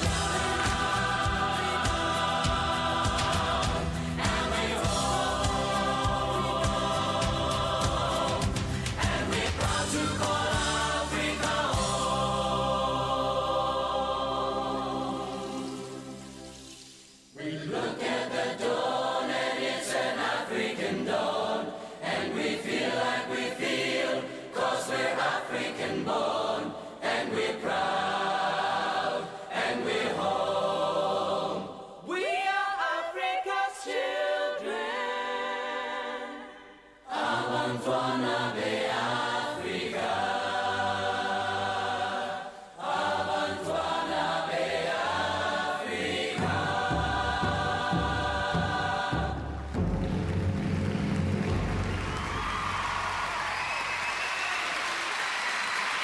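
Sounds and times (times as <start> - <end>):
choir singing: 0.0 - 50.3.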